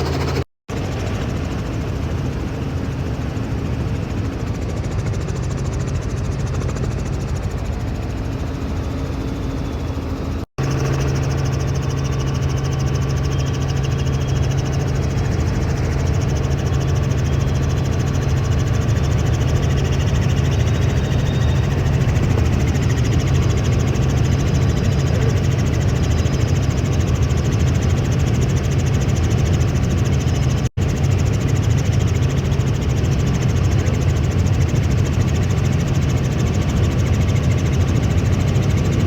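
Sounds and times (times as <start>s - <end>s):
helicopter engine and rotor drone: 0.0s - 39.0s.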